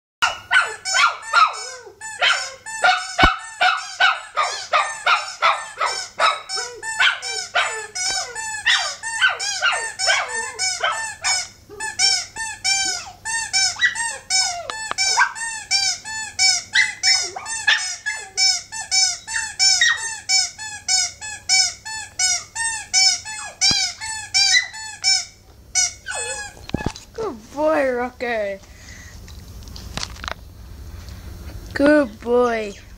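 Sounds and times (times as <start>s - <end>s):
dog whining yips: 0.2s - 27.0s.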